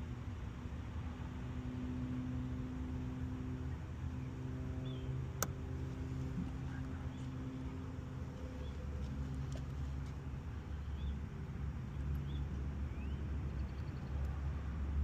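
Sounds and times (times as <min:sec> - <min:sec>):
idling engine hum: 0:00.0 - 0:15.0.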